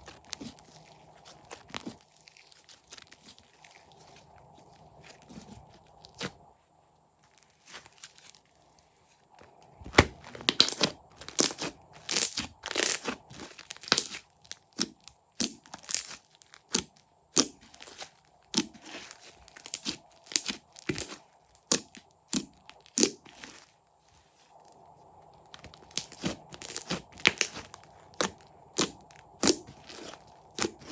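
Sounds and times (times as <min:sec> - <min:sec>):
slime squishing and crackling: 0:00.0 - 0:06.4, 0:09.8 - 0:23.7, 0:24.7 - 0:30.9.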